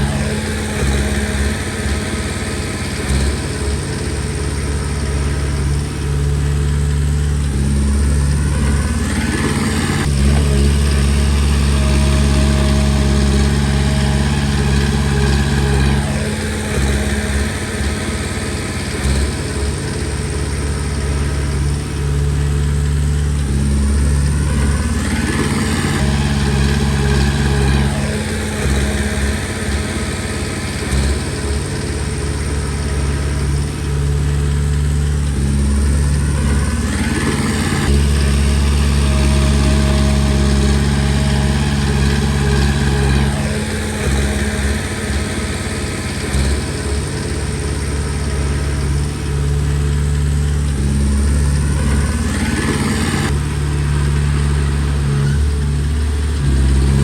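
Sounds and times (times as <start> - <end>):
bulldozer diesel engine under load: 0.0 - 57.0
steel tracks squealing and clanking: 0.0 - 57.0.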